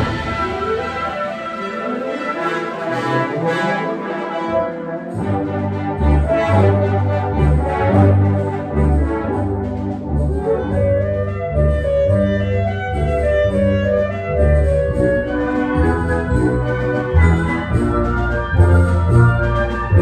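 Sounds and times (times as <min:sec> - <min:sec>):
wind band playing: 0:00.0 - 0:20.0
bowed double basses: 0:02.3 - 0:20.0.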